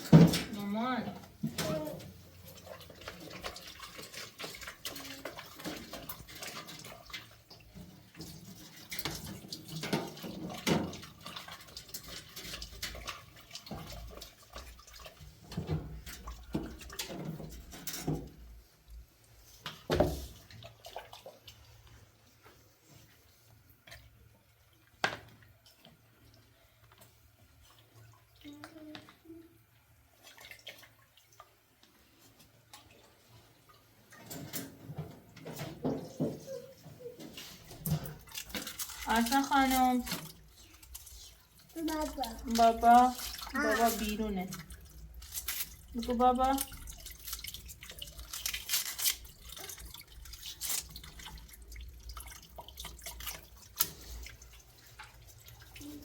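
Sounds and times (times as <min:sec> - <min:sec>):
water splashing and dripping: 0:00.0 - 0:56.0.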